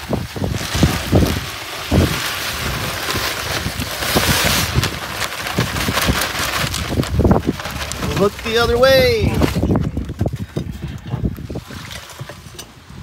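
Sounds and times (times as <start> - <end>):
dry concrete mix pouring: 0.0 - 13.0
wind buffeting microphone: 0.0 - 13.0.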